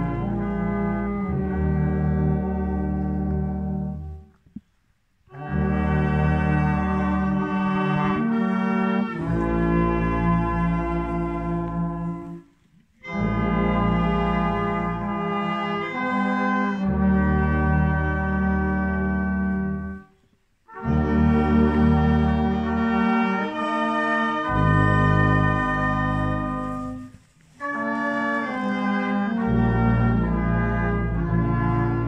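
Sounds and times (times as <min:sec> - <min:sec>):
brass ensemble playing chords: 0:00.0 - 0:04.4, 0:05.3 - 0:32.0.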